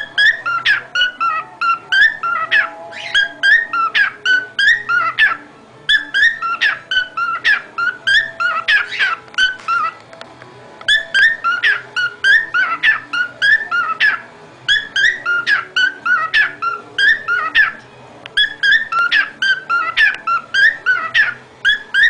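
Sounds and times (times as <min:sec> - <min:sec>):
cockatiel whistling: 0:00.0 - 0:10.0, 0:10.9 - 0:17.8, 0:18.4 - 0:22.0.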